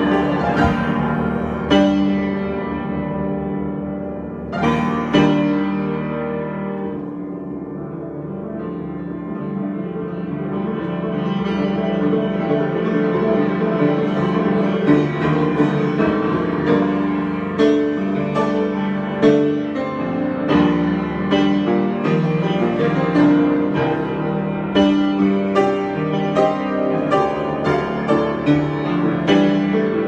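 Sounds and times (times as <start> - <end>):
solo piano: 0.0 - 30.0.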